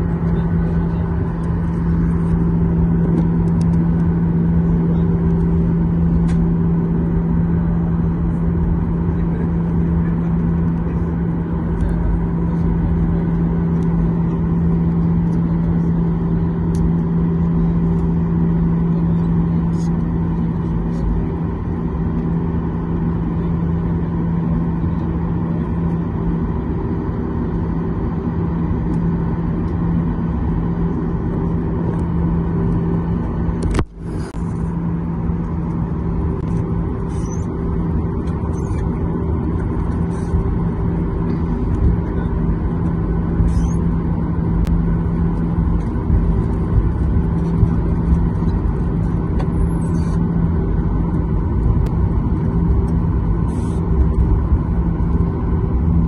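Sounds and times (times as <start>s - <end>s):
jet engines droning in cabin: 0.0s - 56.0s.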